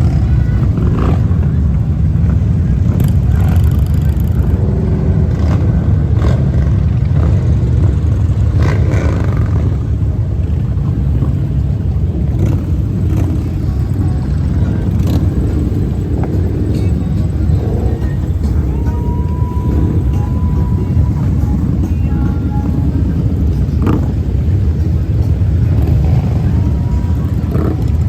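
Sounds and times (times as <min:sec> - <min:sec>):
motorcycle engines droning: 0:00.0 - 0:28.0.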